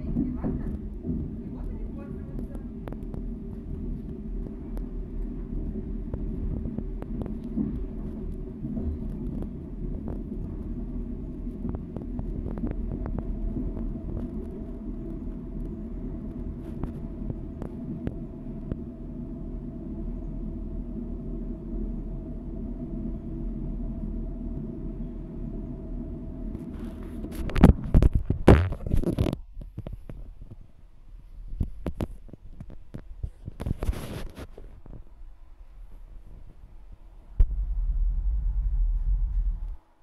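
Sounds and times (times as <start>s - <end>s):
train interior rumble: 0.0s - 40.0s.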